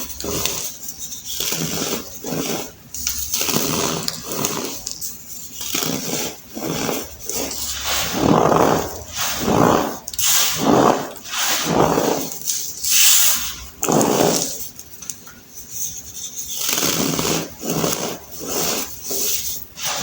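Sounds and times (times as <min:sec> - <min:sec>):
baking soda crunching squeakily: 0:00.0 - 0:20.0.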